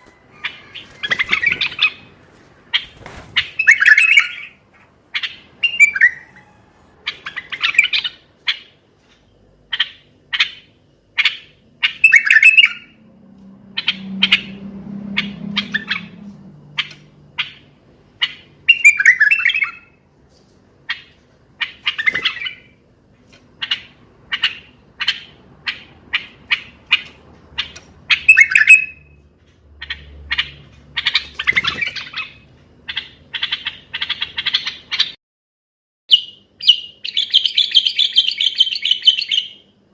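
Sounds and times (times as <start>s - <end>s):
bird chirping and warbling: 0.0s - 8.8s, 9.6s - 20.0s, 20.9s - 22.8s, 23.6s - 35.2s, 36.1s - 39.7s.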